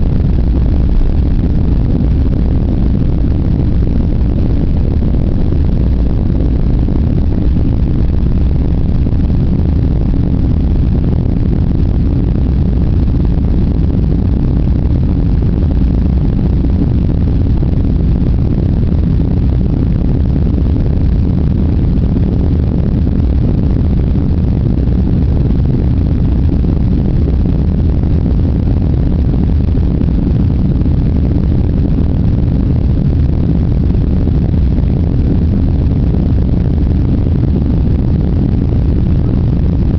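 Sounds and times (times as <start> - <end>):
jet engines rumbling: 0.0 - 39.9
rushing air: 0.0 - 39.9.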